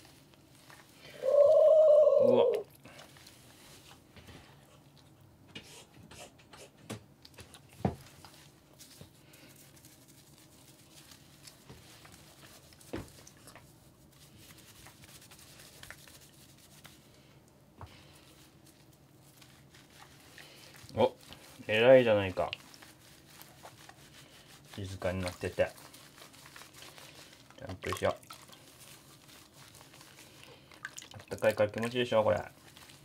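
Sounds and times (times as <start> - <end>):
hands rubbing wet fur: 0.0 - 4.9, 7.8 - 33.0.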